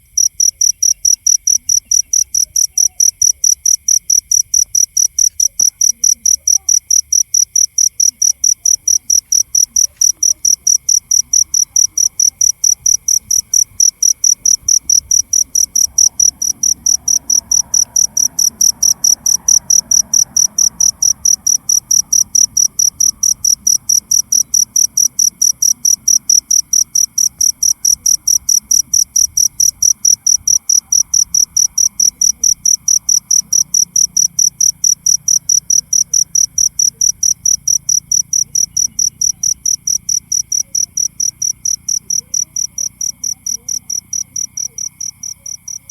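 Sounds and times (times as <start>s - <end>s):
cricket chirping: 0.0s - 45.9s
faint insect trill: 0.0s - 45.9s.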